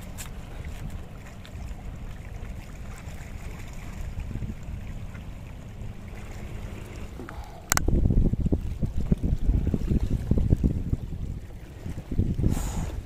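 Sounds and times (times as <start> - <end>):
small waves on rocks: 0.0 - 13.0
wind on microphone: 0.0 - 13.0.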